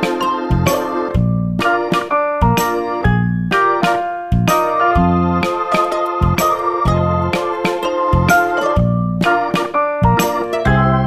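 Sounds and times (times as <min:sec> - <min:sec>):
keyboard tune with bass and percussion: 0:00.0 - 0:11.0.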